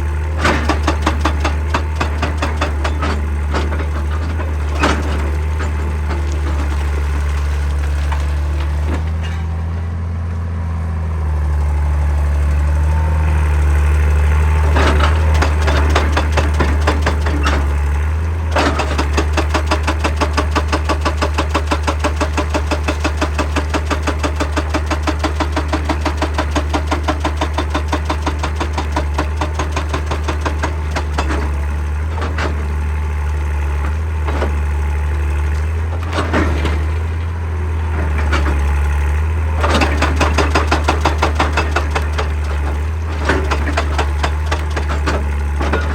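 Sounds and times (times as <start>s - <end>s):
hydraulic breaker hammering rock: 0.0s - 9.4s, 14.6s - 45.9s
excavator diesel engine running: 0.0s - 45.9s.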